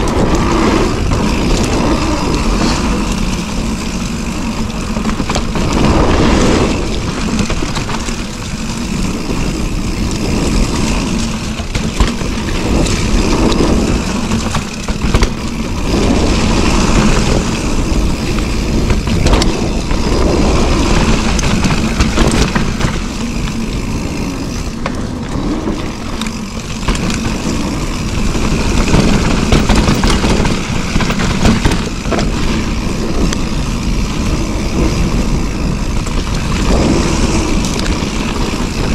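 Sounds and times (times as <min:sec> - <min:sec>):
bike knocks and rattles: 0:00.0 - 0:38.9
tyres rolling on dirt: 0:00.0 - 0:38.9
wind rumble on microphone: 0:00.0 - 0:38.9.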